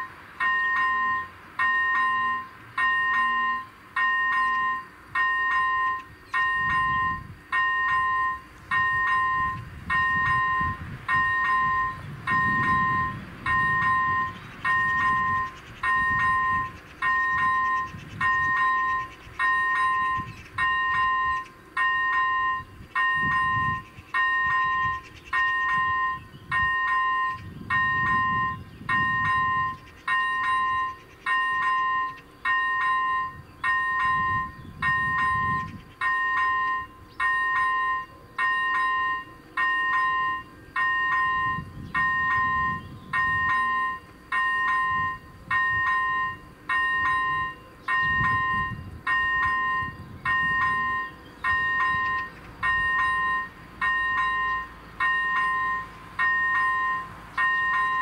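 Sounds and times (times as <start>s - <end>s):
level crossing bell dinging: 0.0s - 58.0s.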